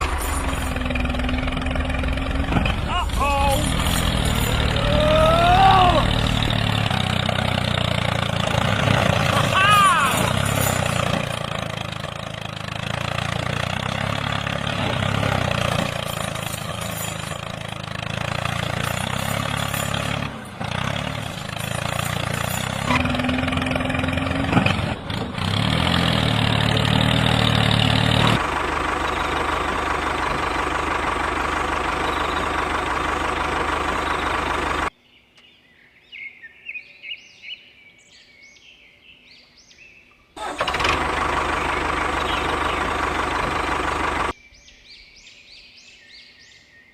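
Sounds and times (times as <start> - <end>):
birds chirping: 0.0 - 24.7, 29.0 - 40.5, 41.5 - 46.9
engine running: 0.0 - 34.9, 40.4 - 44.4.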